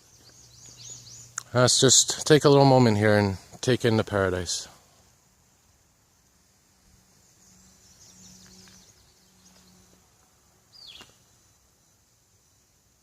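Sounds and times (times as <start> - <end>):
birds twittering: 0.0 - 4.7, 6.9 - 12.6.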